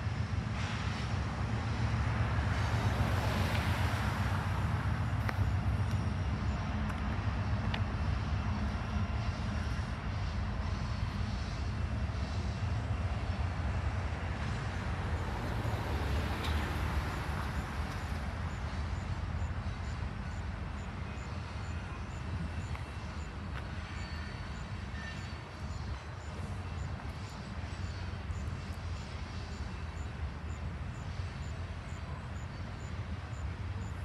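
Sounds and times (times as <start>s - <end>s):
freight train rumbling past: 0.0s - 34.0s
road traffic passing: 0.0s - 34.0s.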